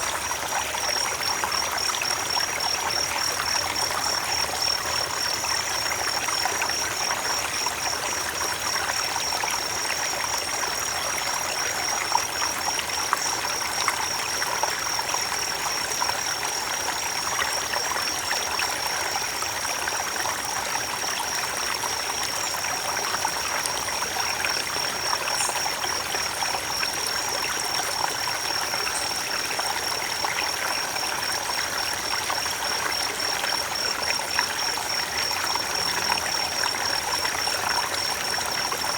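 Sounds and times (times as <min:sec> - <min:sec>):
creek water running over stones: 0:00.0 - 0:38.9.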